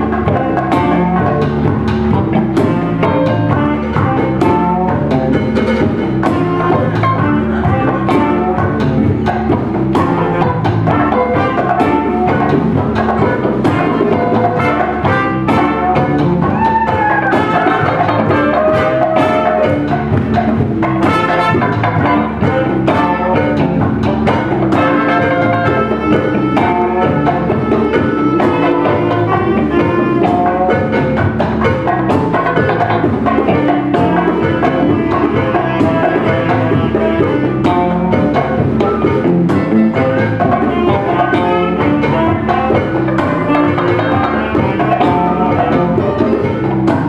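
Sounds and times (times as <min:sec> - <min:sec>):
drums: 0:00.0 - 0:47.0
electric guitar: 0:00.0 - 0:47.0
saxophone: 0:00.0 - 0:47.0
trumpet: 0:00.0 - 0:47.0.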